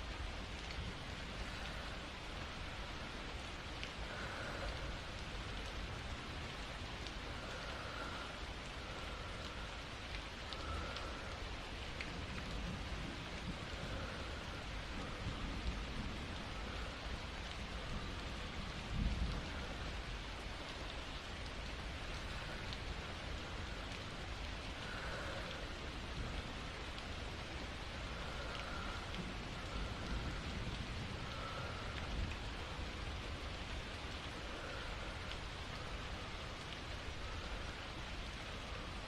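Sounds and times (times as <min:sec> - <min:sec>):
constant low rumble: 0:00.0 - 0:39.0
steady rain falling: 0:00.0 - 0:39.0.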